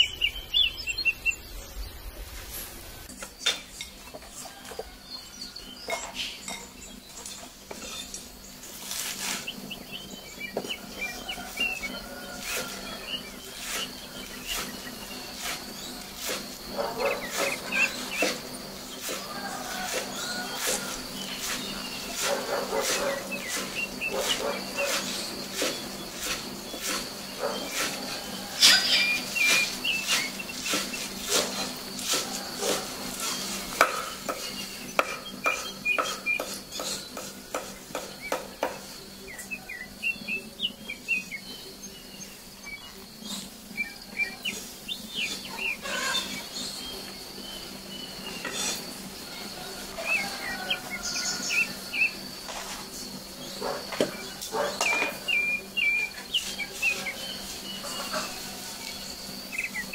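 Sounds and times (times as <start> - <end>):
small birds chirping: 0.0 - 59.9
high insect buzz: 6.2 - 59.9.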